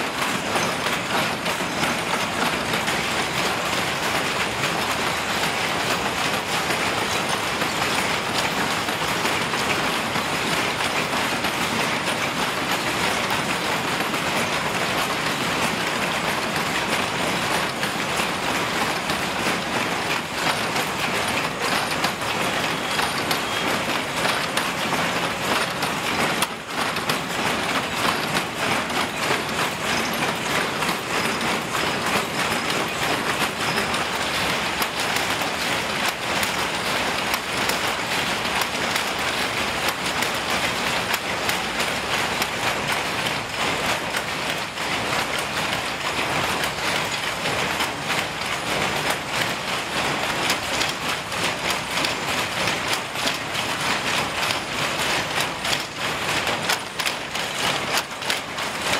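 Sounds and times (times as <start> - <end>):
power looms clattering: 0.0 - 58.9.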